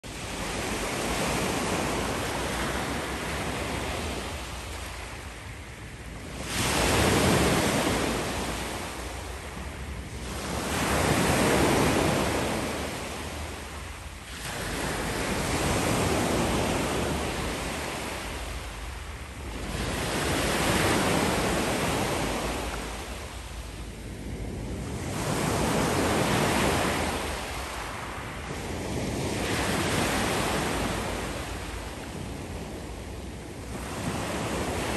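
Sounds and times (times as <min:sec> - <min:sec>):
sea waves washing in: 0:00.0 - 0:34.9.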